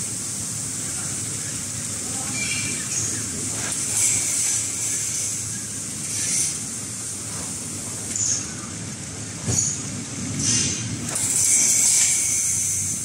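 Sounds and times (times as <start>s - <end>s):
wrapping machine running: 0.0s - 13.0s.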